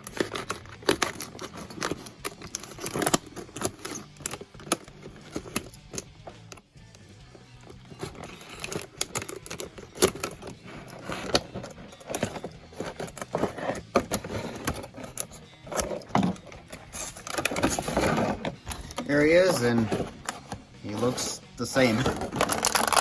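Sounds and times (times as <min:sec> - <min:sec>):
plastic and cardboard clicks rattles: 0:00.0 - 0:06.6, 0:07.6 - 0:20.5.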